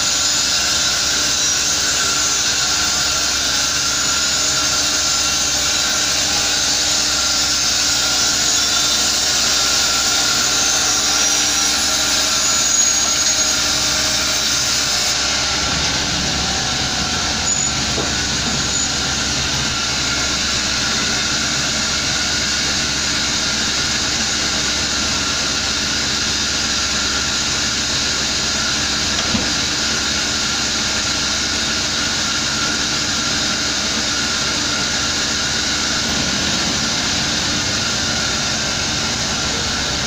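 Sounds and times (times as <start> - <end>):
band saw cutting log: 0.0 - 40.0.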